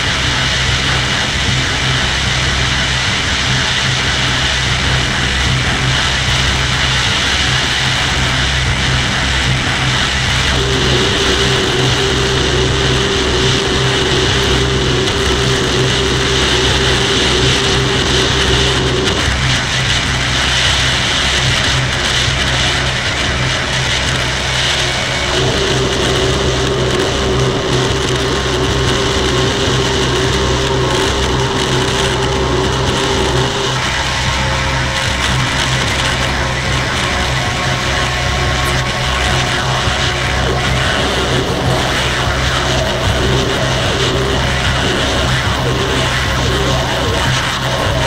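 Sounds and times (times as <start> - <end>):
dense droning noise: 0.0 - 48.0.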